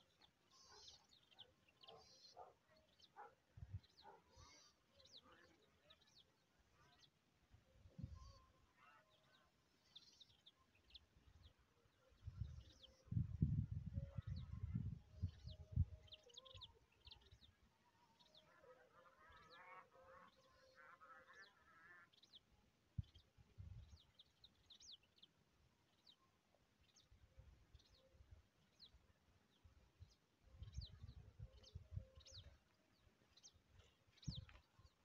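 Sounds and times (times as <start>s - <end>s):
birds chirping: 0.0s - 7.2s, 8.0s - 35.0s.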